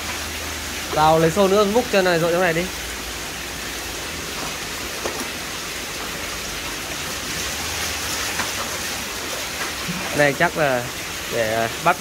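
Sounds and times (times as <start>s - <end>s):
water splashing into basin: 0.0s - 12.0s.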